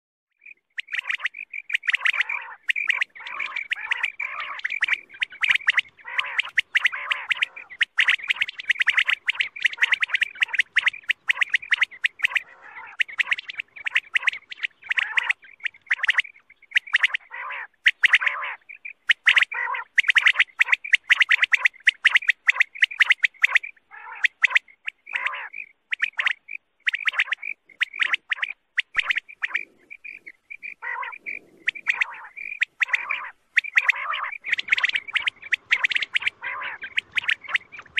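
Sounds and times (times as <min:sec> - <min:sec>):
quail calling: 0:00.4 - 0:37.9.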